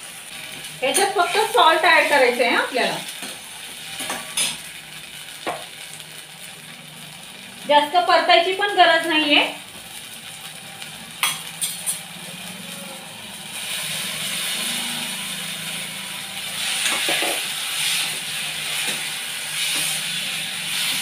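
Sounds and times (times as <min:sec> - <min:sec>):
frying hiss: 0:00.0 - 0:21.0.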